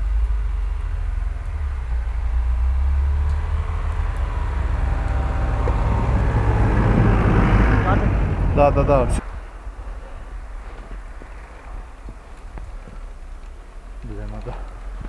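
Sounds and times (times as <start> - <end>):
car engine running: 0.0 - 15.0
tyres on snow: 0.0 - 15.0.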